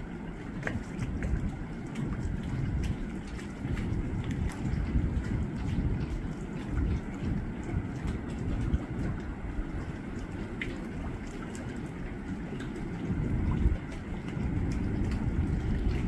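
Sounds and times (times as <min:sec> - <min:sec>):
water splashes: 0:00.0 - 0:16.0
wind buffeting the microphone: 0:00.0 - 0:16.0.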